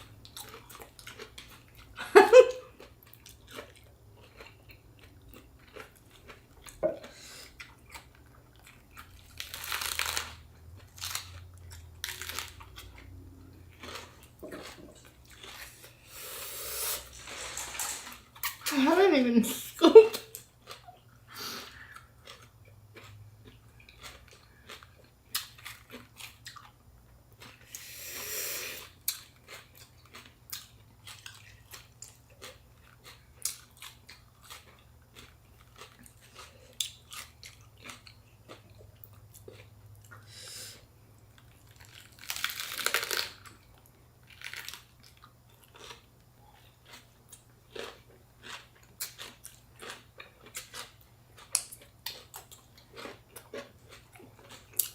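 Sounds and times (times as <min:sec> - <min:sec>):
chewing and crunching food: 0:00.0 - 0:16.4, 0:20.1 - 0:28.0, 0:28.8 - 0:54.9.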